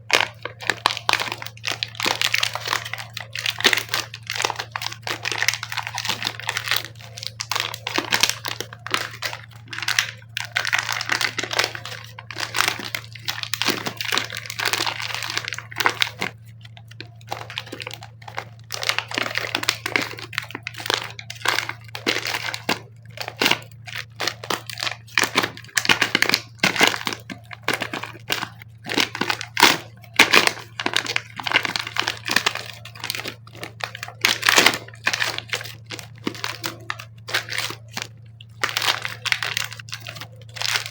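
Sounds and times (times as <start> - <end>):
faint low hum: 0.0 - 40.9
plastic packaging crinkling: 0.0 - 40.9
plastic tearing: 0.0 - 40.9.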